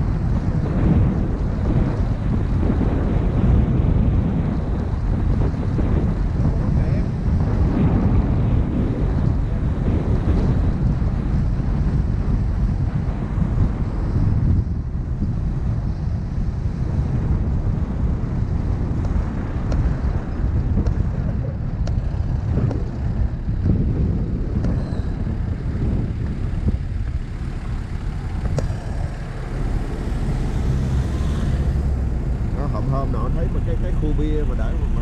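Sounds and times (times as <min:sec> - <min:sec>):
road traffic noise: 0:00.0 - 0:35.0
wind buffeting microphone: 0:00.0 - 0:35.0.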